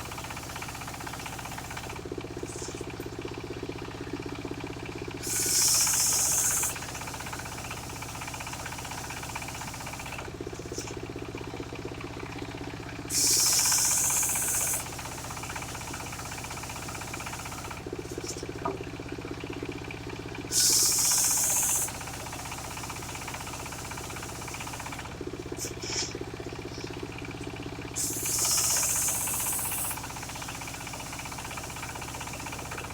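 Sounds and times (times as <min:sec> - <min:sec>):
circular sawmill running: 0:00.0 - 0:32.9.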